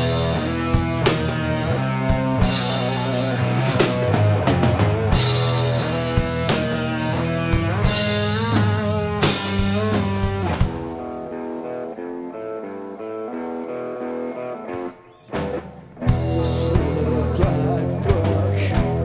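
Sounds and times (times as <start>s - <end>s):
drum kit: 0.0s - 11.8s, 15.3s - 19.0s
bass guitar: 0.0s - 19.0s
distorted electric guitar: 0.0s - 19.0s.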